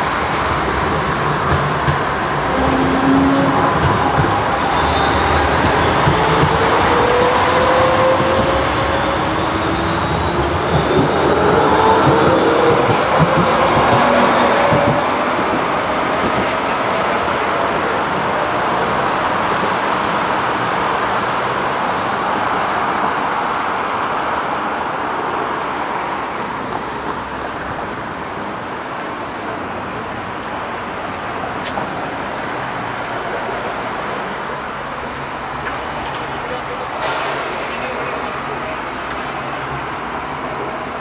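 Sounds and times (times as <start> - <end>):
city traffic noise: 0.0 - 41.0.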